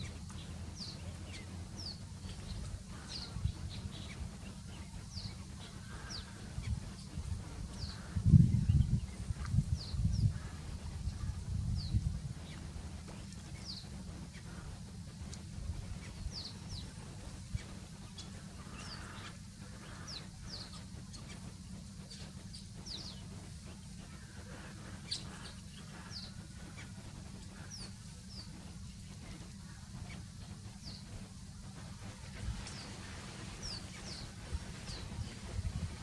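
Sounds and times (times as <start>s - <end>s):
birds chirping: 0.0s - 36.0s
low rumble: 0.0s - 36.0s.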